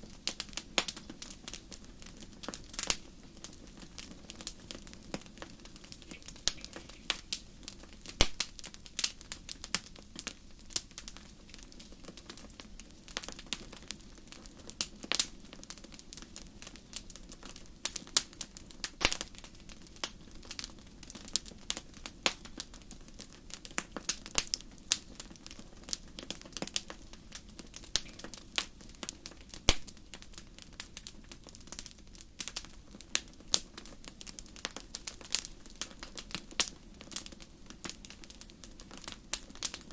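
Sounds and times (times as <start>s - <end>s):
campfire crackling and popping: 0.0s - 39.9s
low rush of flames: 0.0s - 39.9s.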